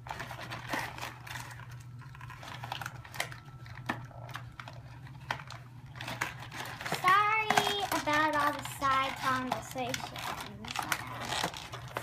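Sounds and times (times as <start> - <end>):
clicks of unpacking plastic packaging: 0.0 - 12.0
low steady hum: 0.0 - 12.0.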